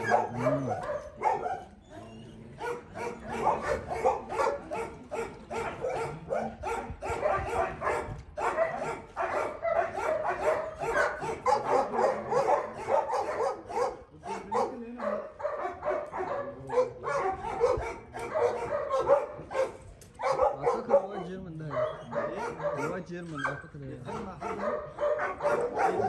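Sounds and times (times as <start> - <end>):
dogs barking and yipping: 0.0 - 26.0.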